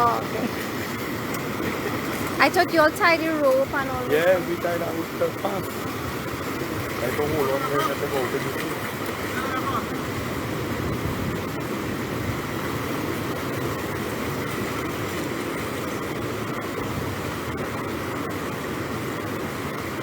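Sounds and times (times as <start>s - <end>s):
floodwater rushing across road: 0.0s - 20.0s.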